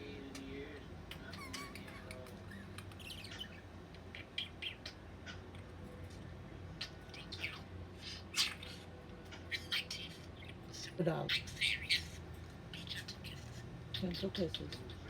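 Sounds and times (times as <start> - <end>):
budgie chirping and chatter: 0.3 - 5.7, 6.6 - 15.0.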